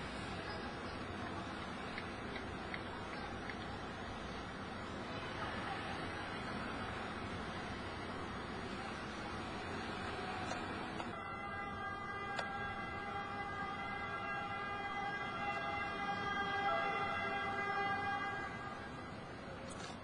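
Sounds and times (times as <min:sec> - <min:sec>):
emergency vehicle siren: 0:00.0 - 0:19.6.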